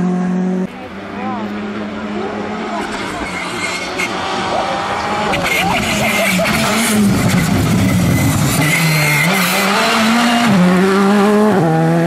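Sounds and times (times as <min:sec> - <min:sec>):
rally car engine revving past: 0:01.4 - 0:12.0.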